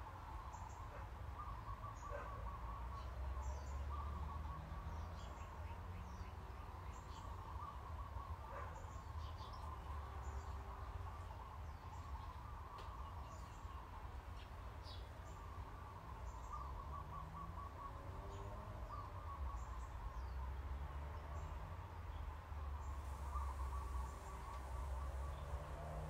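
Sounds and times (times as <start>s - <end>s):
small birds chirping: 0.3s - 26.0s.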